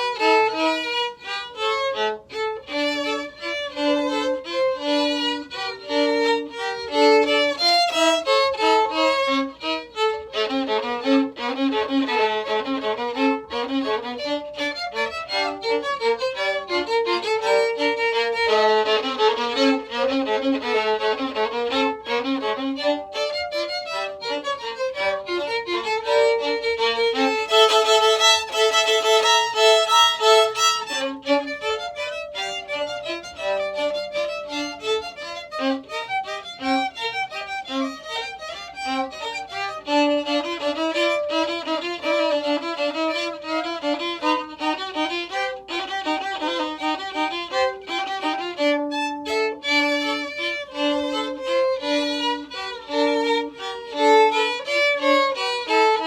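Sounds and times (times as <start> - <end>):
violin playing a melody: 0.0 - 56.0.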